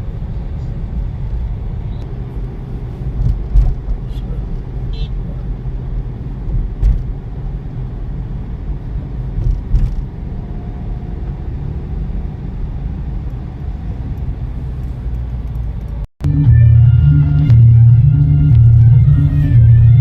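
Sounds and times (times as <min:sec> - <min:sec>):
car engine rumble inside car: 0:00.0 - 0:20.0
road noise: 0:00.0 - 0:20.0.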